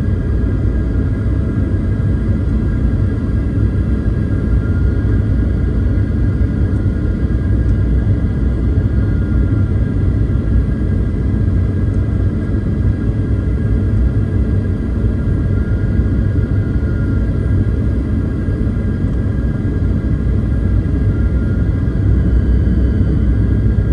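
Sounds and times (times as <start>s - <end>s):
airliner cabin engine rumble: 0.0s - 23.9s
jet engine whine: 0.0s - 23.9s.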